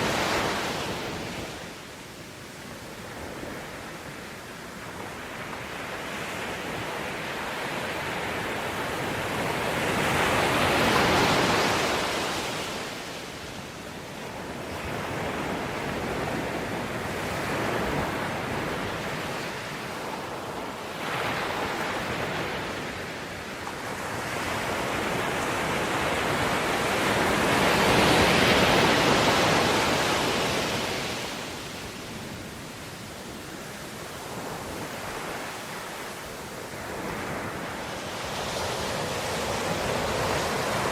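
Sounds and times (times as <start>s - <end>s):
ocean waves breaking: 3.0s - 40.9s.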